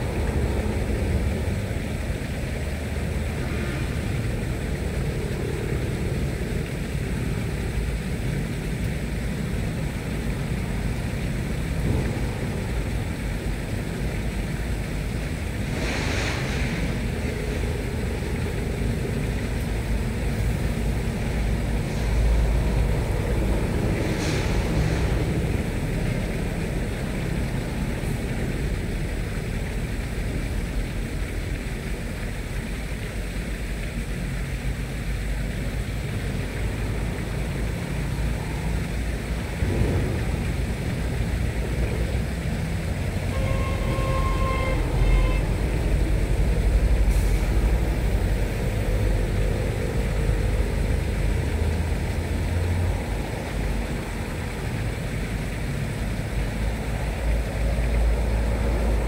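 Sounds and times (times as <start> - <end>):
boat engine rumbling: 0.0 - 59.0.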